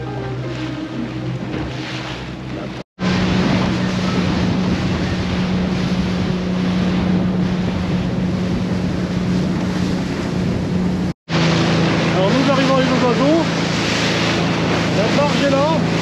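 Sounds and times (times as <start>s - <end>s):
outboard motor humming: 0.0s - 16.0s
water rushing: 0.0s - 16.0s
wind buffeting microphone: 0.0s - 16.0s.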